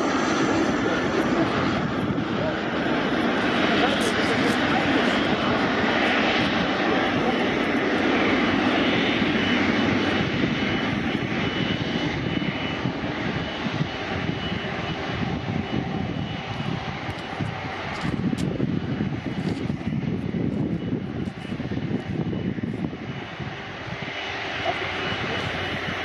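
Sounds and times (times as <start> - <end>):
jet engines landing: 0.0 - 26.0.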